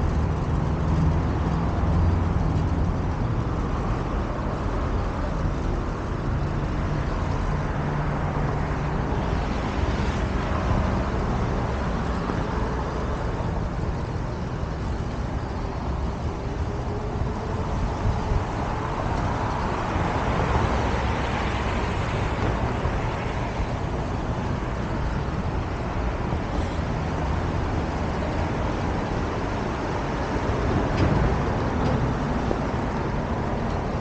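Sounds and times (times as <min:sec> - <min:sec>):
passing cars: 0:00.0 - 0:34.0.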